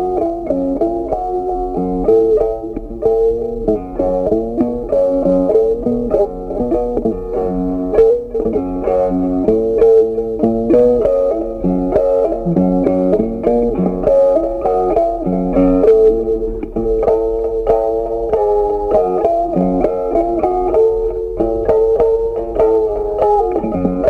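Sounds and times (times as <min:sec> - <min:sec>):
plucked guitar melody: 0:00.0 - 0:24.0.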